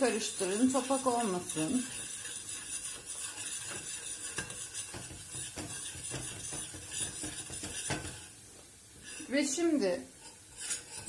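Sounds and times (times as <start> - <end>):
metal spoon scraping a pot: 0.0 - 8.4, 9.0 - 11.0
faint steady hiss: 0.0 - 11.0.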